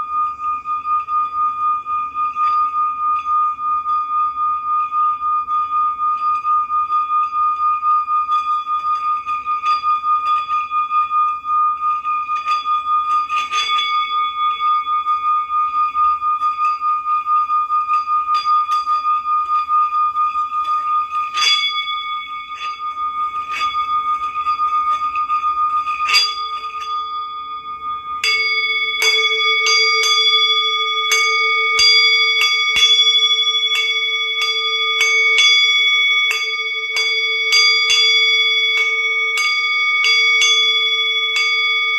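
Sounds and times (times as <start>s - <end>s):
lower-pitched bowl struck: 0.0s - 41.9s
metal singing bowls ringing: 0.0s - 41.9s.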